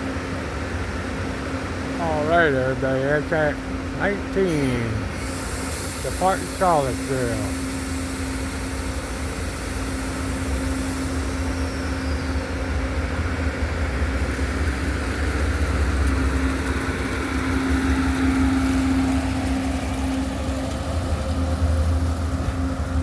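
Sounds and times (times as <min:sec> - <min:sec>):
diesel locomotives rumbling: 0:00.0 - 0:23.0.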